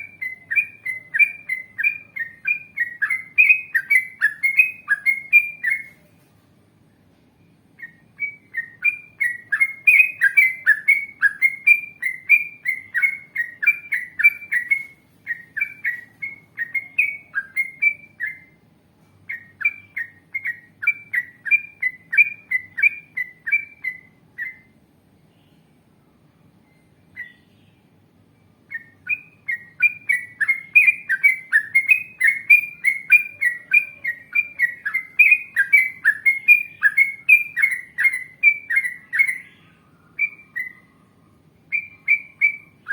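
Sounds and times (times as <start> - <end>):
bulbul chattering song: 0.0 - 6.1, 7.4 - 42.9.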